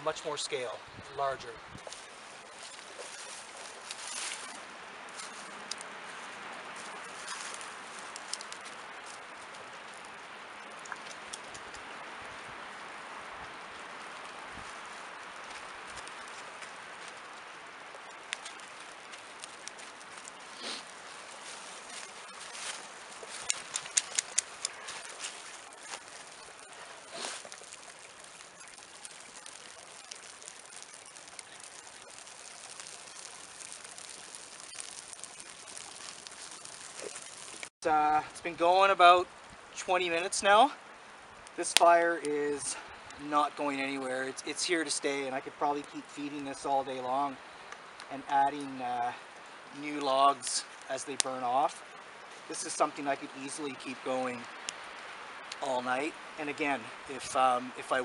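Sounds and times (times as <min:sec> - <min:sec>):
twigs and bark crackling: 0:00.0 - 0:58.0.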